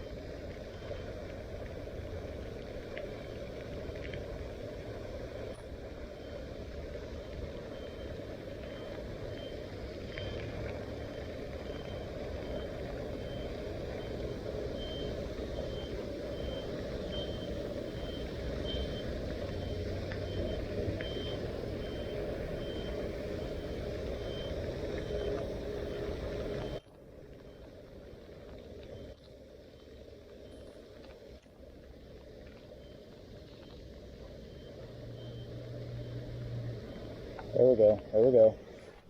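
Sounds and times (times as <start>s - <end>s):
steady low rumble: 0.0s - 39.0s.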